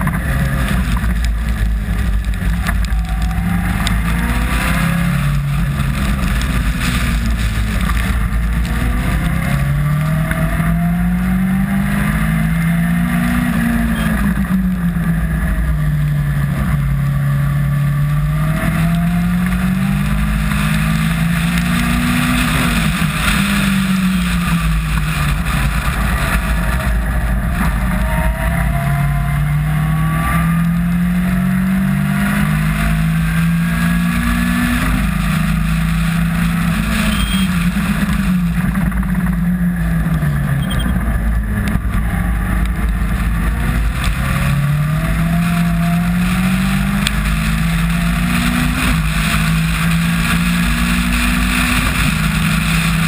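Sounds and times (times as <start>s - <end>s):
racing car engine revving: 0.0s - 53.0s.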